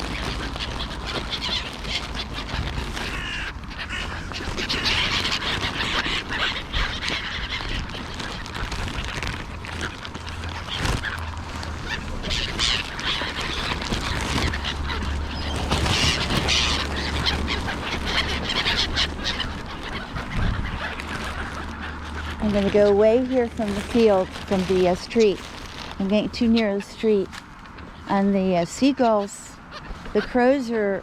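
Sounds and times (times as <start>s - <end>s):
gulls calling: 0.0s - 31.0s.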